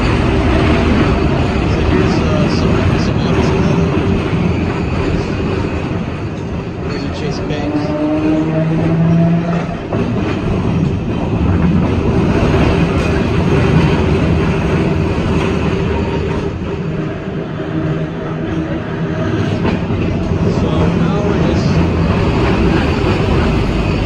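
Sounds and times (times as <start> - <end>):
clickety-clack of track: 0.0 - 24.0
streetcar wheels rumbling on rails: 0.0 - 24.0.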